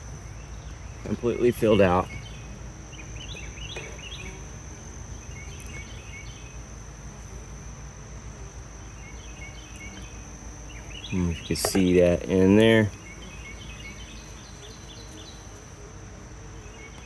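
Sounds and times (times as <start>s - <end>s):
high-pitched insect drone: 0.0s - 17.0s
insect chirping: 0.0s - 17.0s.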